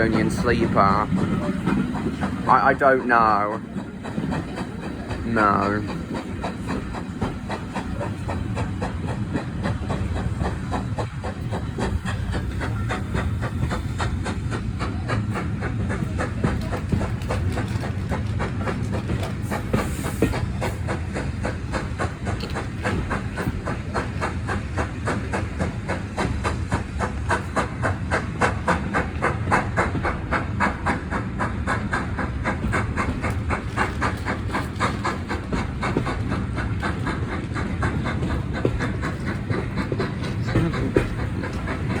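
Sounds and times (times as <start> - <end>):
steam train rumble: 0.0 - 42.0.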